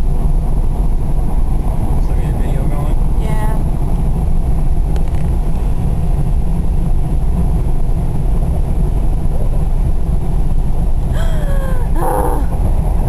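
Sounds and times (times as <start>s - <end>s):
car driving on highway: 0.0s - 13.0s.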